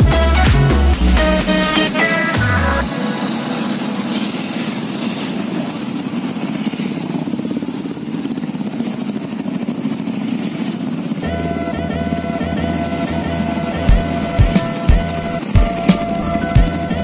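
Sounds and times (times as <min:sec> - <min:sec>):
motorcycle engines: 0:00.0 - 0:17.0.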